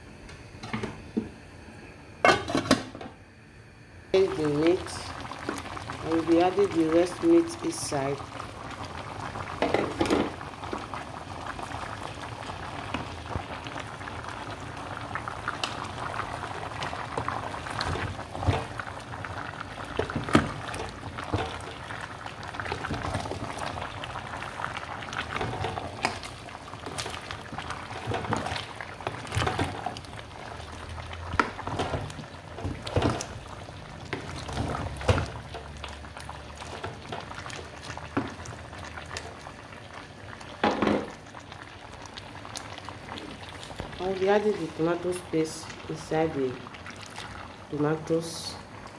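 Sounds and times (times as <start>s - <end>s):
pot of meat bubbling: 4.2s - 48.9s.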